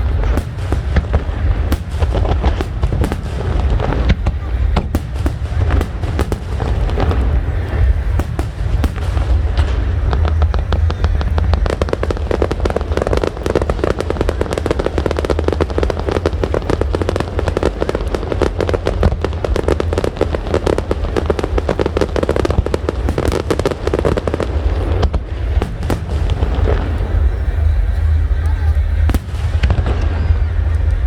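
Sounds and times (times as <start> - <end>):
fireworks bangs and crackles: 0.0 - 31.0
low rumble: 0.0 - 31.0.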